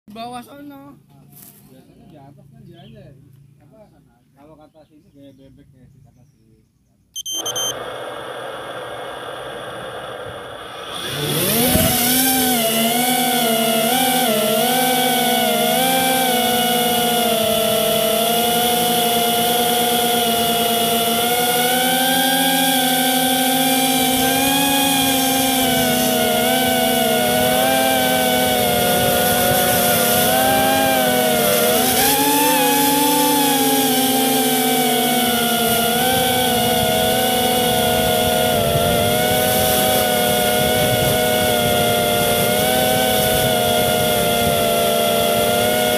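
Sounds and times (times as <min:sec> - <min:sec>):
drone motors whining: 0:07.2 - 0:45.9.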